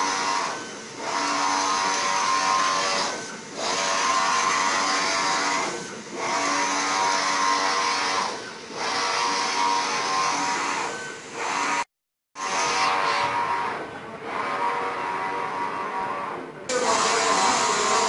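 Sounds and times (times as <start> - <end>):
machine motor whining: 0.0 - 11.8, 12.4 - 18.0.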